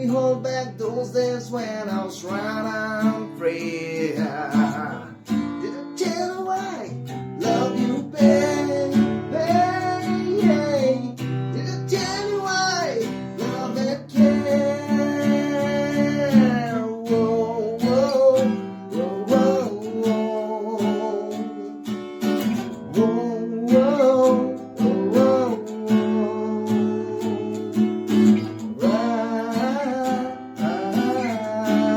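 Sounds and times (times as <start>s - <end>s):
wordless singing: 0.0s - 21.9s, 22.7s - 31.9s
strummed acoustic guitar: 0.0s - 31.9s.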